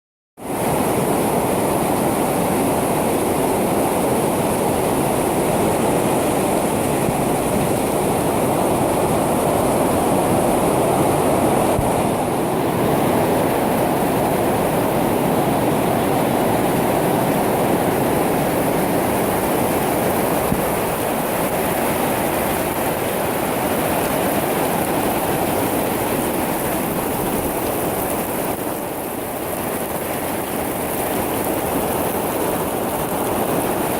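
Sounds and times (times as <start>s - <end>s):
heavy rain pouring: 0.4s - 33.9s.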